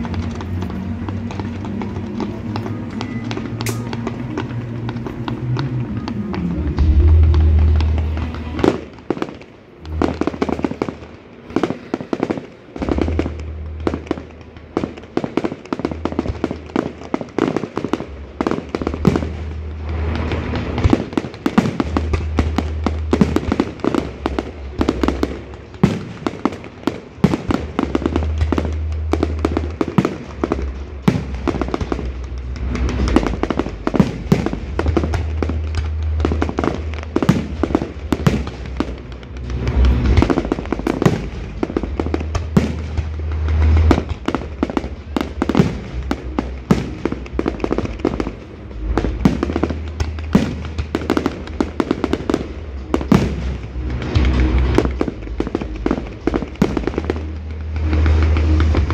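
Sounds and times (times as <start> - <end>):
music with deep bass: 0.0 - 8.9, 15.8 - 26.0, 27.2 - 58.9
fireworks bursting and crackling: 0.0 - 58.9.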